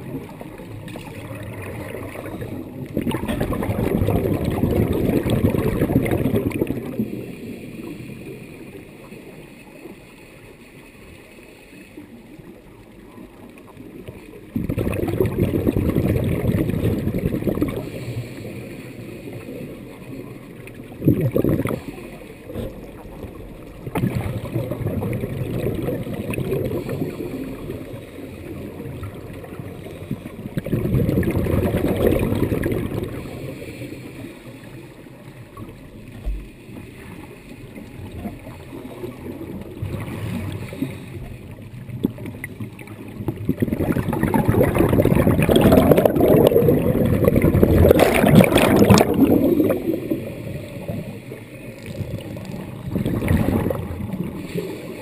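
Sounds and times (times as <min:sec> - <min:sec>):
underwater breath bubbles: 0:00.0 - 0:08.7, 0:14.5 - 0:55.0.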